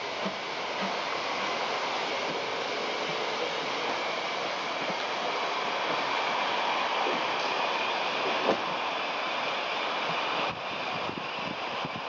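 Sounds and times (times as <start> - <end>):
train running hiss and rumble: 0.0 - 12.0.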